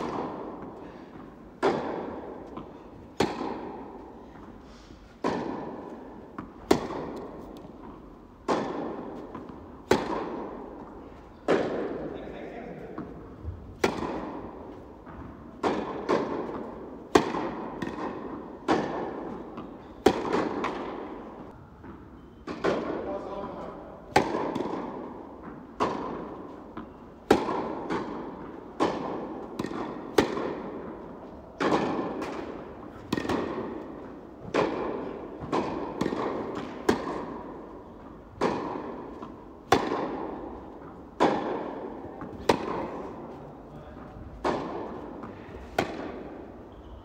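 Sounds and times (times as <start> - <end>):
tennis balls bouncing: 0.0 - 47.0
tennis balls struck by rackets: 0.0 - 47.0.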